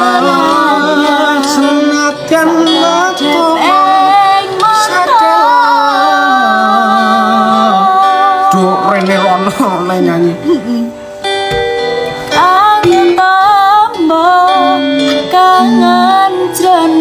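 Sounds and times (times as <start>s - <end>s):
person singing long wavering notes: 0.0s - 9.0s, 10.3s - 11.0s, 12.3s - 17.0s
instrumental accompaniment: 0.0s - 17.0s.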